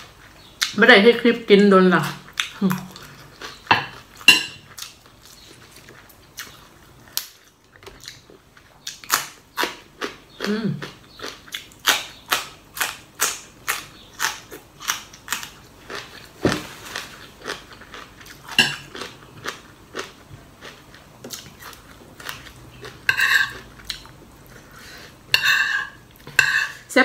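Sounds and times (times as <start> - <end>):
crunchy vegetable chewing: 2.0 - 26.8.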